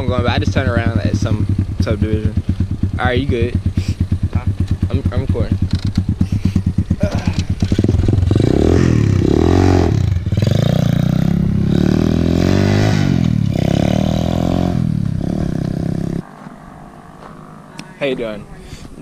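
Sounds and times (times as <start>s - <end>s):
dirt bike engine revving: 0.0s - 18.6s.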